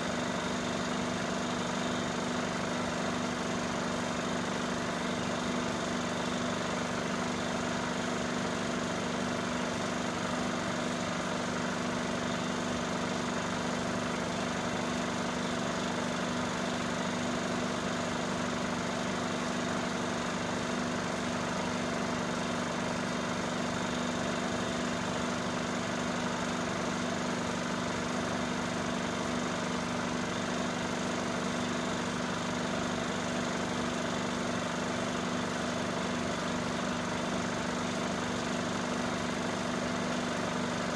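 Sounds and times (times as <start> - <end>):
film projector running: 0.0 - 40.9.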